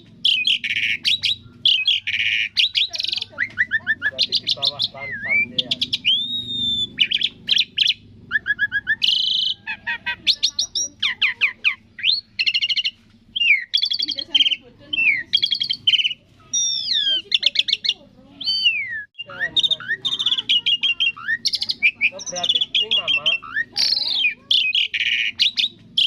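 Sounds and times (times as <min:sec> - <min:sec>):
starling singing: 0:00.0 - 0:26.0.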